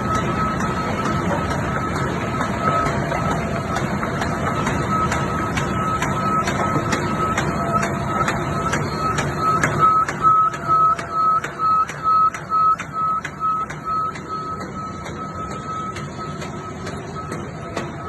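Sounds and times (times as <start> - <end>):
high repeating beep: 0.0 - 18.0
machine clicking: 0.0 - 18.0
machine rumble: 0.0 - 18.0.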